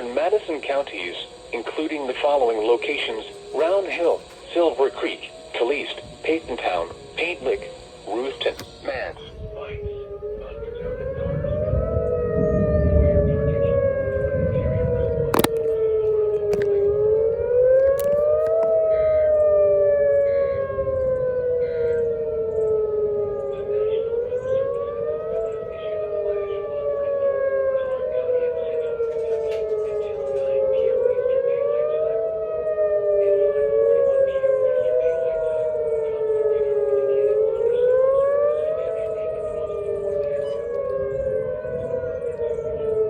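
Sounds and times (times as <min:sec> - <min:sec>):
warning sirens wailing: 0:00.0 - 0:43.0.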